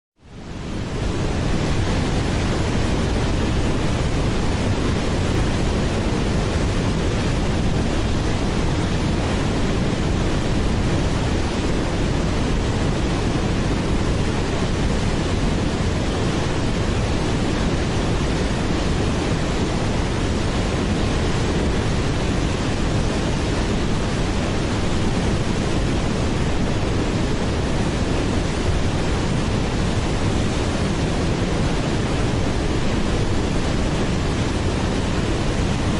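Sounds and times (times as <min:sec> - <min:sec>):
waterfall rushing: 0:00.4 - 0:35.9.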